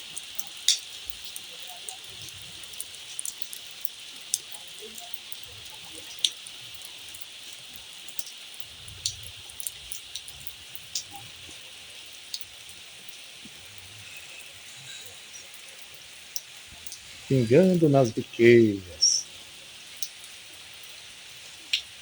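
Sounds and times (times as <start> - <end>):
light rain falling: 0.0 - 22.0.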